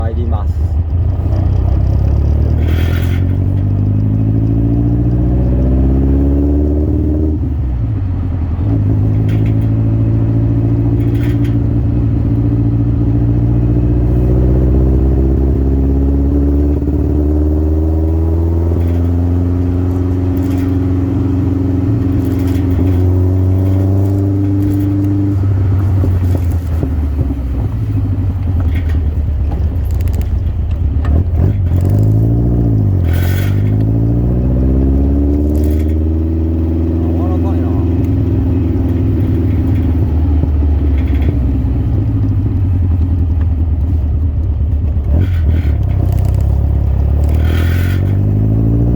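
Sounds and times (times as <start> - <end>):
sports car engine revving: 0.0 - 48.9.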